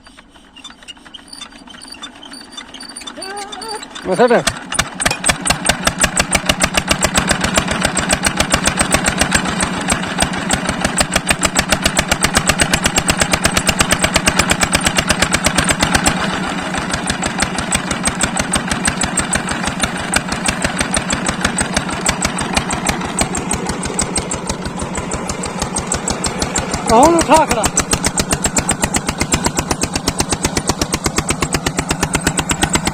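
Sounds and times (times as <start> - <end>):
diesel engine driving water pump: 0.0 - 32.9.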